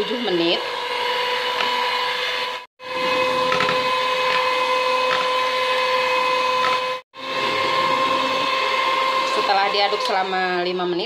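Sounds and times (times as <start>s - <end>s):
electric hand mixer whisking batter: 0.0s - 11.0s.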